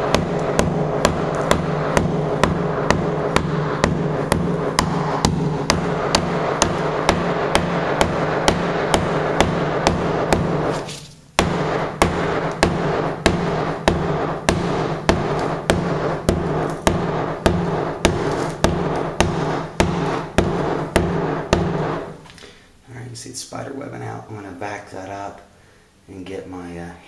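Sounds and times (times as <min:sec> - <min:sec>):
hammer striking ceramic tile: 0:00.0 - 0:22.2.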